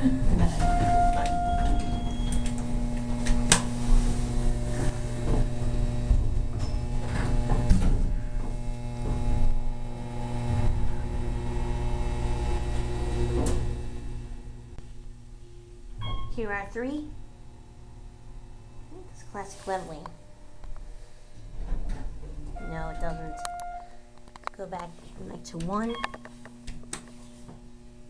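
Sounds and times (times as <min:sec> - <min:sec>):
elevator low hum: 0:00.0 - 0:28.0.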